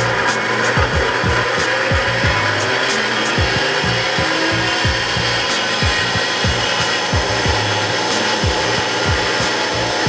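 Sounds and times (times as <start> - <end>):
bass thumps beat: 0.0 - 10.0
drill press motor whirring: 0.0 - 10.0.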